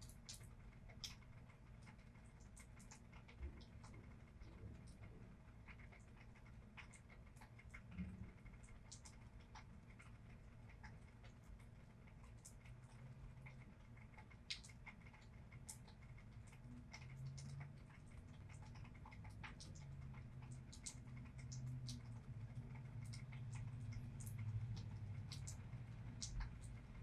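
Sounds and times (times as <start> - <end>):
low steady rumble: 0.0 - 27.0
raindrops pattering: 0.0 - 27.0.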